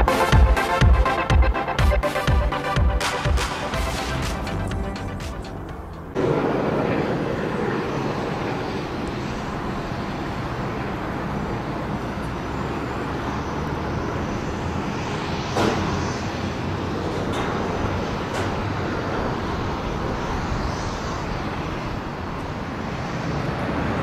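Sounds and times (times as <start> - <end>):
propfan engines idling: 0.0 - 24.0.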